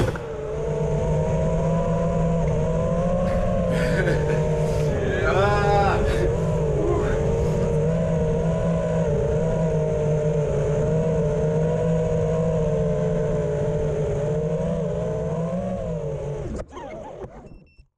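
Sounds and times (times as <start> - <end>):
drone motors buzzing whine: 0.0 - 17.9.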